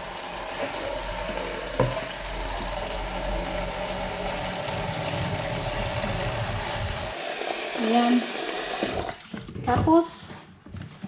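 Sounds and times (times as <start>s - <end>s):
tap water running into sink: 0.0s - 9.7s.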